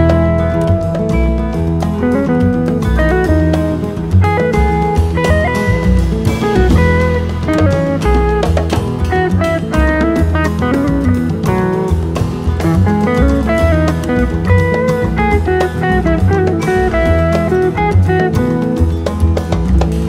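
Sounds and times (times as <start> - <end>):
guitar-led instrumental music: 0.0 - 20.0.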